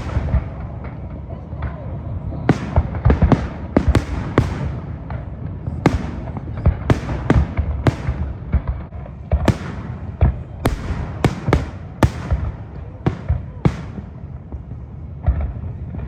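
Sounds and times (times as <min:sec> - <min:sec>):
fireworks bursting bangs: 0:00.0 - 0:01.8, 0:02.4 - 0:16.0.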